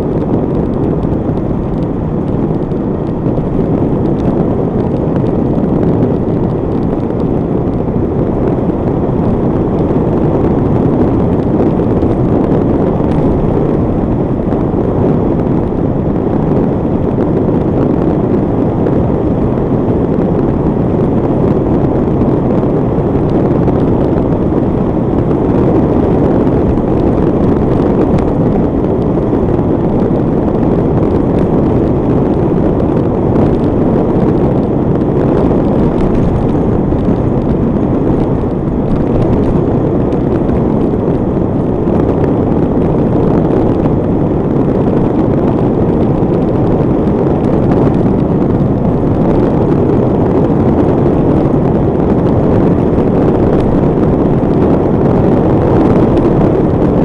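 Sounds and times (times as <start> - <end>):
motorcycle cruising at speed: 0.0 - 57.0
wind buffeting microphone: 0.0 - 57.0.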